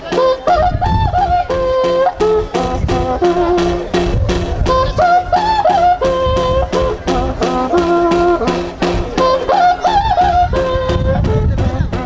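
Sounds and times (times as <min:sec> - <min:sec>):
hand drum struck steadily: 0:00.0 - 0:12.0
high wavering melody: 0:00.0 - 0:12.0.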